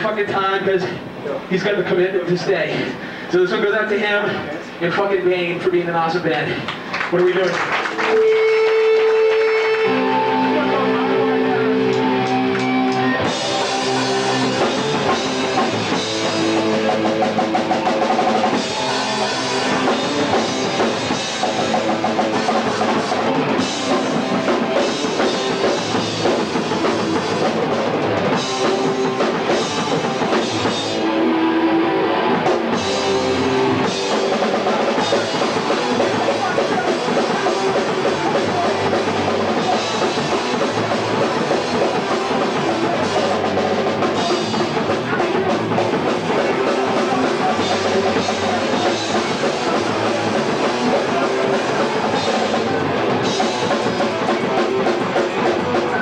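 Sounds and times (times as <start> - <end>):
punk band playing live: 0.0 - 56.0.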